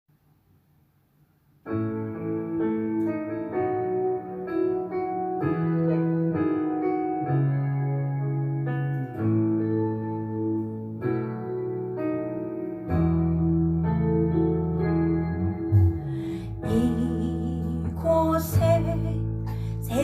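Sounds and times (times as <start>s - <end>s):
slow piano chords: 1.7s - 20.0s.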